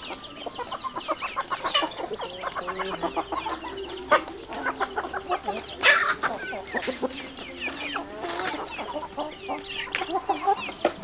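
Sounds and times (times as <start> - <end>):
chickens clucking: 0.0 - 11.0
harsh chicken call: 0.5 - 10.8.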